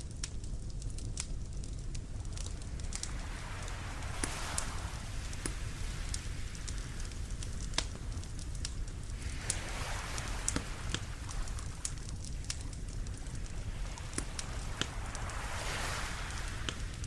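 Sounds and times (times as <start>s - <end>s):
wood fire crackling and popping: 0.0s - 17.0s
waves washing: 2.1s - 17.0s.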